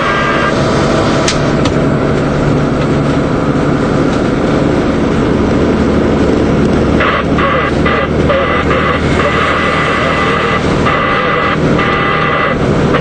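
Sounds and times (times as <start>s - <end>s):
diesel engine running: 0.0s - 13.0s
road noise: 0.0s - 13.0s.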